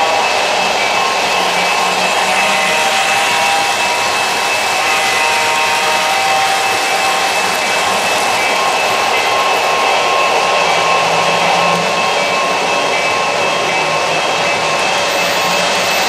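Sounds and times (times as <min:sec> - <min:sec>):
wheels rolling on rail: 0:00.0 - 0:16.0.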